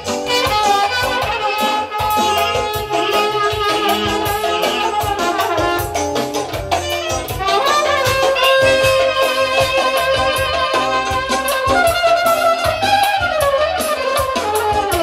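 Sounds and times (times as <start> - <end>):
saxophone: 0.0 - 15.0
steady drum beat: 0.0 - 15.0
trumpet: 0.0 - 15.0.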